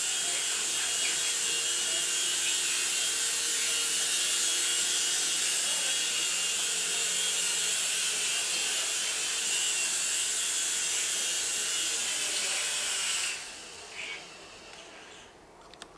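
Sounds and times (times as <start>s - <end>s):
toy helicopter rotors whirring: 0.0s - 15.3s.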